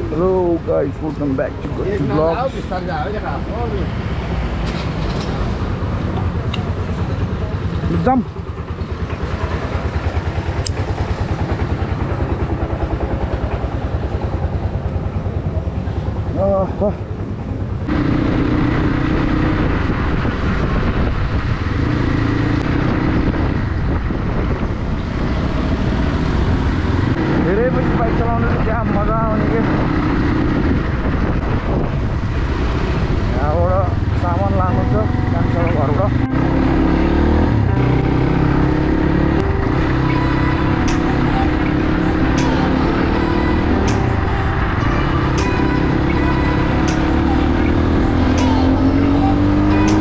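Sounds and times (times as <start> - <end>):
vehicle engine rumble: 0.0 - 50.0.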